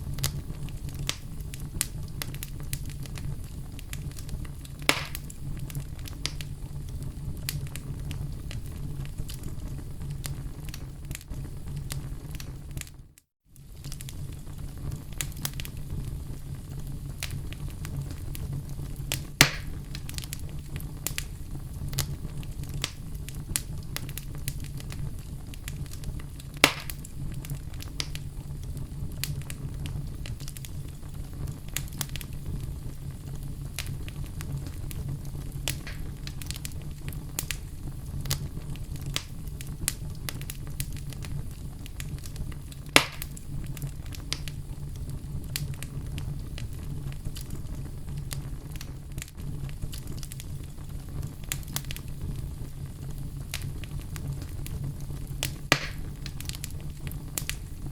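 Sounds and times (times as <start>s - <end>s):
loud fire pops: 0.0s - 13.0s, 13.6s - 57.9s
wood fire crackling: 0.0s - 57.9s.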